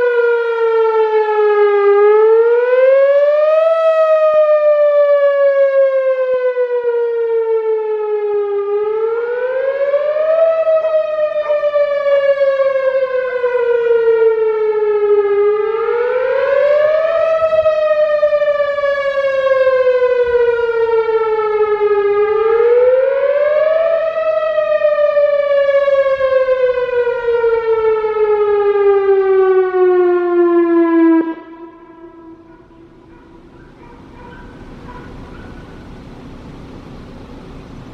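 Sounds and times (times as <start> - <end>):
rotating warning siren wailing: 0.0 - 37.9.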